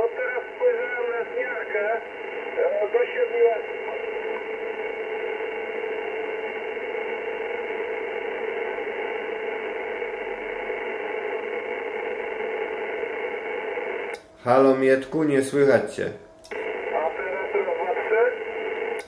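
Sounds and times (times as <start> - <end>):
radio static hiss: 0.0 - 15.9, 16.5 - 19.0
faint steady tones: 0.0 - 19.0.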